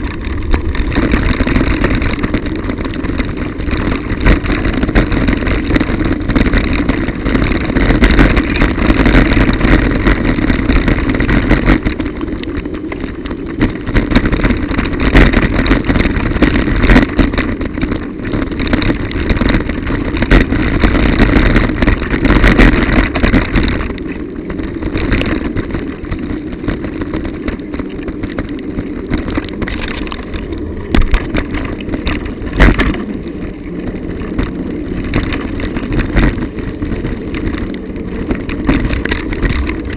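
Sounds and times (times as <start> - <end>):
bicycle knocks and rattles: 0.0 - 39.9
wind and tyres rushing: 0.0 - 39.9.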